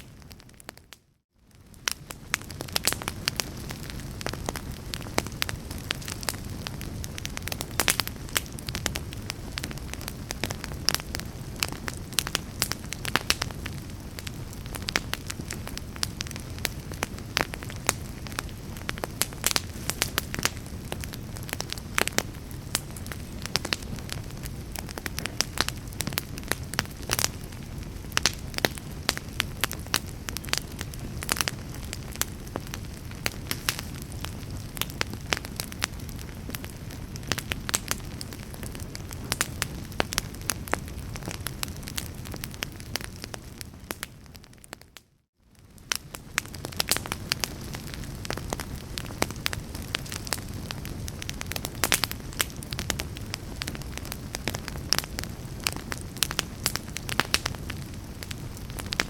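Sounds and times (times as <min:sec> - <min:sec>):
low rumble of flames: 0:00.0 - 0:59.0
wood fire crackling and popping: 0:00.0 - 0:59.0.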